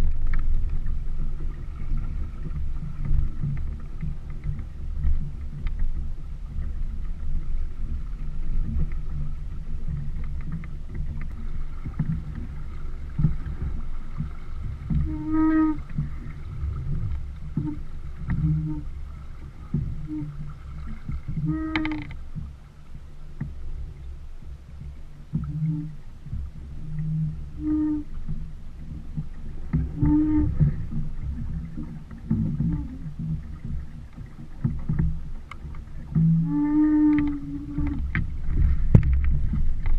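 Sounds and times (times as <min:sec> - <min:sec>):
water rushing along hull: 0:00.0 - 0:39.9
wind on microphone: 0:00.0 - 0:39.9.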